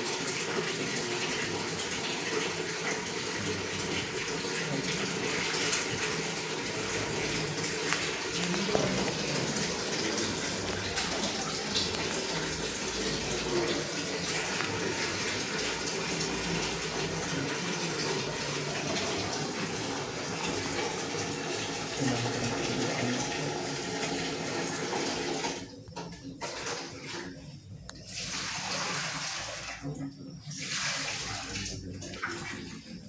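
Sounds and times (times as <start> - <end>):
water running from a tap: 0.0 - 33.0.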